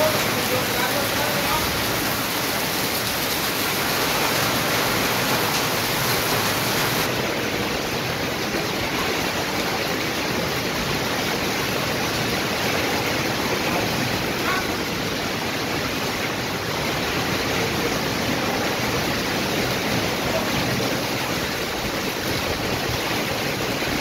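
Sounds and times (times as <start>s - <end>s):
heavy rain on a metal roof: 0.0s - 24.0s
runoff streaming off roof: 0.0s - 24.0s.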